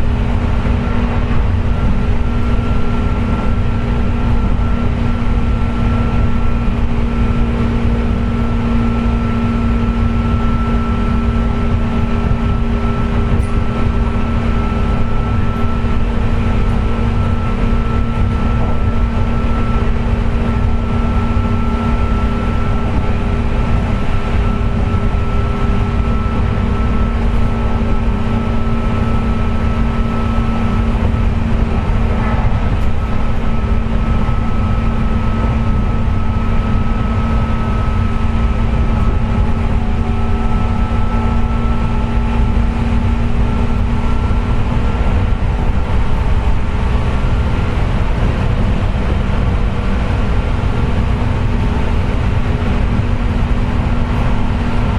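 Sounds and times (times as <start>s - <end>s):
electric train motor whine: 0.0s - 54.9s
train wheels rumbling on track: 0.0s - 54.9s.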